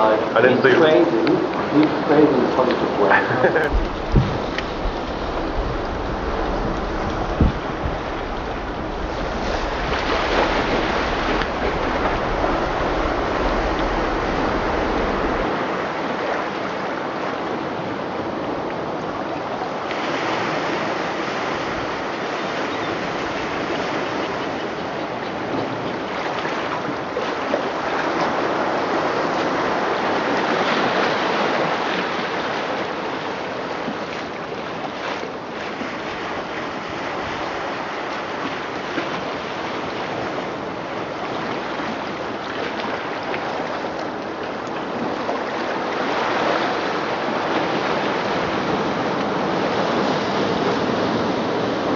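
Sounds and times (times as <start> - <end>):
ocean waves washing in: 0.0 - 51.9.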